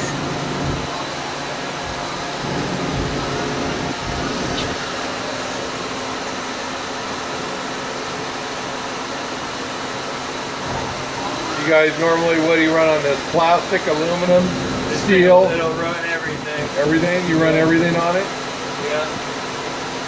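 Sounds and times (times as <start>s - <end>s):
lathe machine hum: 0.0s - 20.0s.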